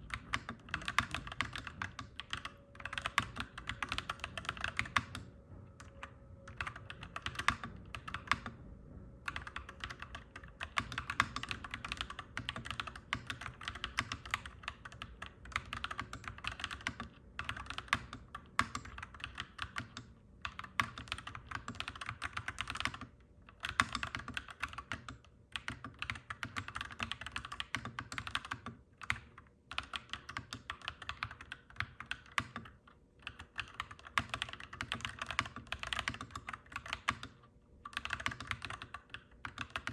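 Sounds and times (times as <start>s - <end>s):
mechanical keyboard typing: 0.0s - 8.6s, 9.2s - 39.9s
faint low hum: 0.0s - 39.9s.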